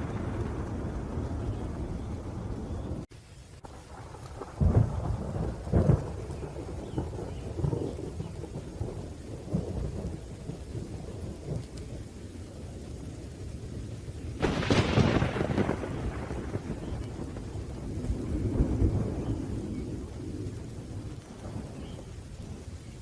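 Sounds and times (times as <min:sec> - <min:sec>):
sharp thunderclap: 0:00.0 - 0:12.0, 0:13.6 - 0:22.6
rain hiss: 0:00.0 - 0:23.0
rolling thunder: 0:00.0 - 0:23.0.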